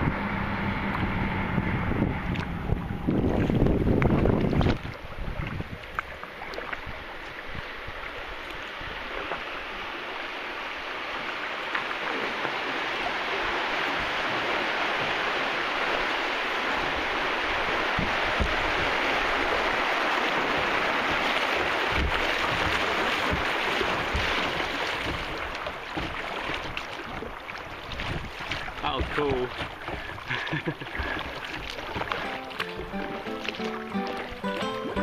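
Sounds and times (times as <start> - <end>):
rushing river water: 0.0 - 35.0.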